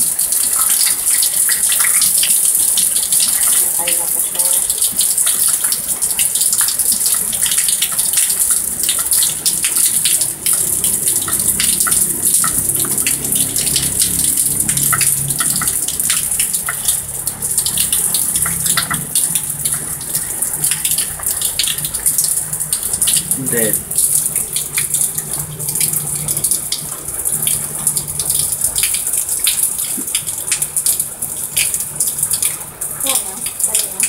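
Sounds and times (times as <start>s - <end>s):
water running and splashing: 0.0s - 34.0s.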